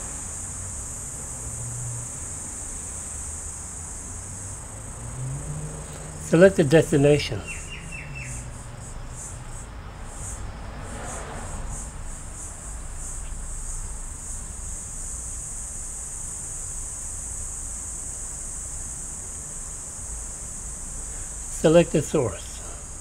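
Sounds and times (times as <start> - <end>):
insects chirping and trilling: 0.0 - 23.0.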